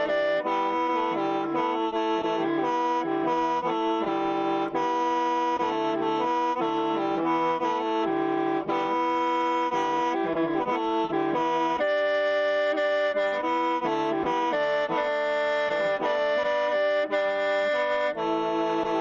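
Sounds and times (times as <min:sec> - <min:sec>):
bamboo mouth organ playing: 0:00.0 - 0:19.0.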